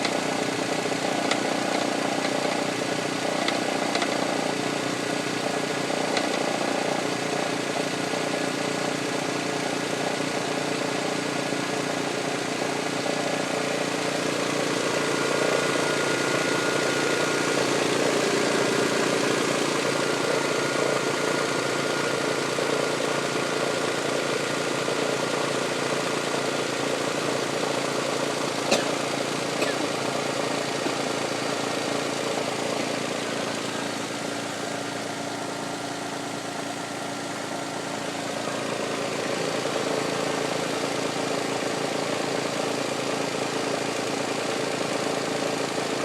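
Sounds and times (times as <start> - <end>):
car engine idling: 0.0 - 46.0
engine knocking: 0.0 - 46.0.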